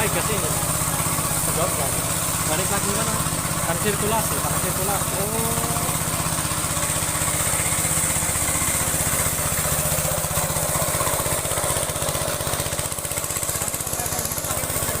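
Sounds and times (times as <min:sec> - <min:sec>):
pressure washer pump hiss: 0:00.0 - 0:15.0
small engine running steadily: 0:00.0 - 0:15.0.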